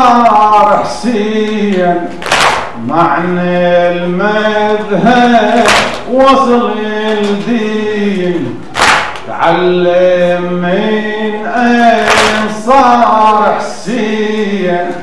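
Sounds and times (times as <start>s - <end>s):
man chanting a lament: 0.0s - 2.2s, 2.8s - 15.0s.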